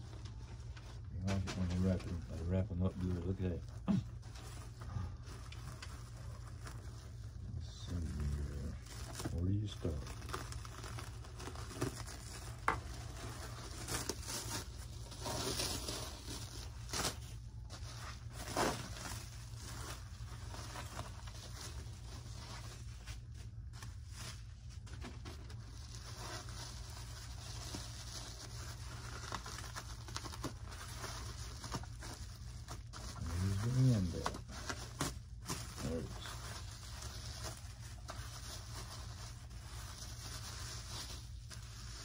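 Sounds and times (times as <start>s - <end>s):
plastic sheeting crinkling: 0.0s - 42.0s.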